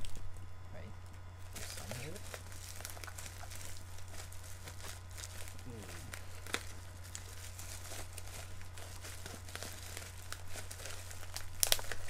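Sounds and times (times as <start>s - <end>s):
bubble wrap crinkling: 0.0s - 12.0s
steady low hum: 0.0s - 12.0s.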